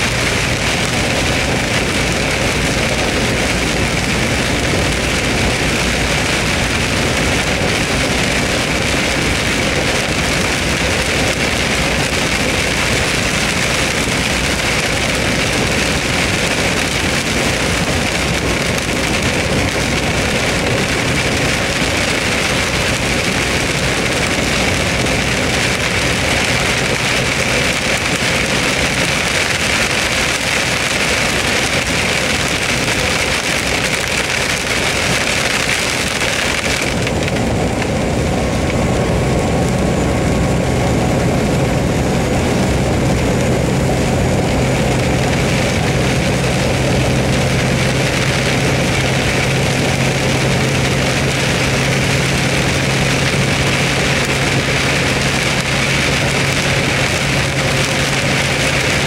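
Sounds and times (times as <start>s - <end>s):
heavy rain on windshield and roof: 0.0s - 59.0s
low engine hum: 0.0s - 59.0s
tyre and road noise: 0.0s - 59.0s.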